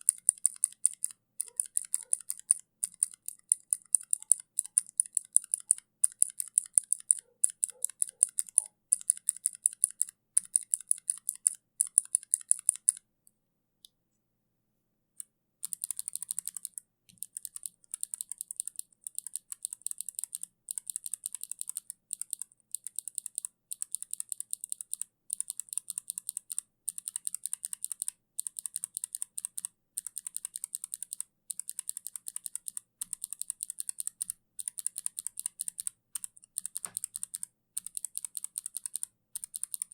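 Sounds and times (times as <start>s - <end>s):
mechanical keyboard typing: 0.0s - 13.0s, 15.6s - 39.9s.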